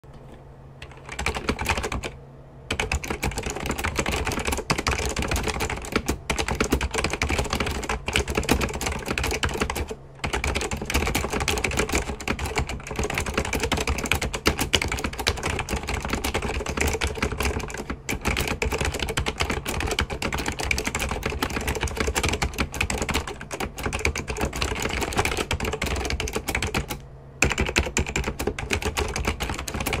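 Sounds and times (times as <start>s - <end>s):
steady low hum: 0.0s - 30.0s
rapid clicking and tapping: 0.8s - 30.0s.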